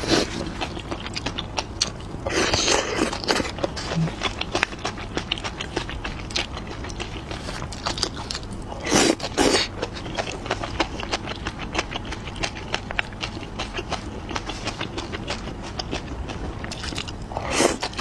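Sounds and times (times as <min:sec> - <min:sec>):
close-miked chewing: 0:00.0 - 0:18.0.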